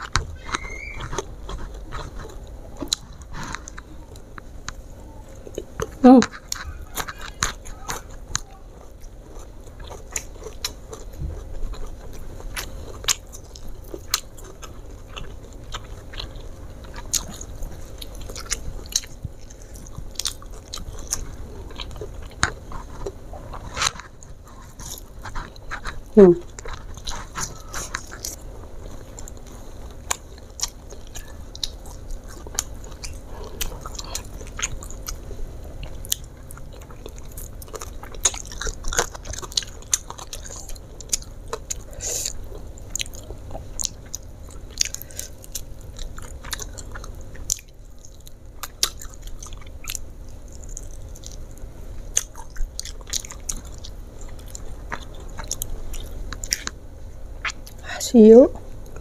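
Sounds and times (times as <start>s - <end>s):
chewing crispy food: 0.0s - 59.0s.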